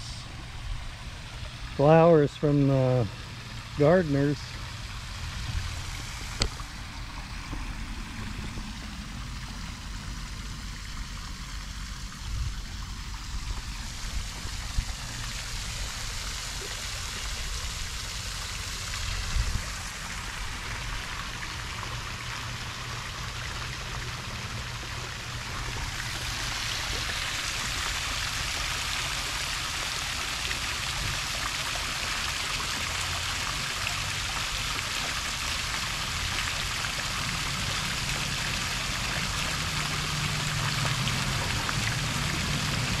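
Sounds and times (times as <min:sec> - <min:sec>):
fountain water splashing: 0:00.0 - 0:43.0.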